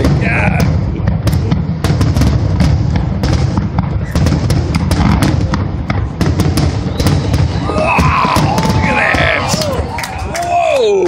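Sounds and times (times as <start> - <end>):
deep booming: 0.0 - 10.0
fireworks cracking: 0.0 - 11.0.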